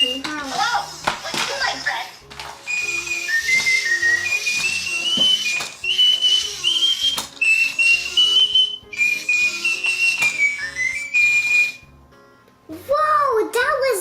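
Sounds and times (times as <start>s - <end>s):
toy whistling tune: 0.0s - 12.0s.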